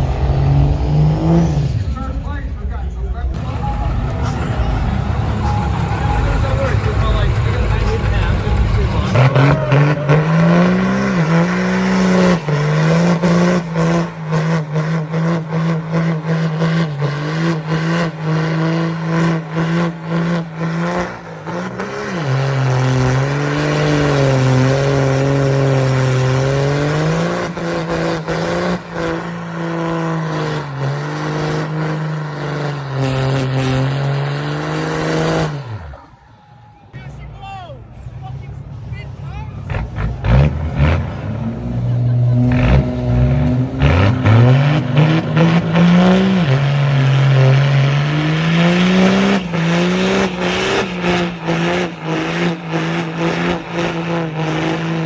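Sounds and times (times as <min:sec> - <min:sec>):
diesel truck engine revving: 0:00.0 - 0:02.7, 0:03.3 - 0:36.4, 0:37.9 - 0:55.0.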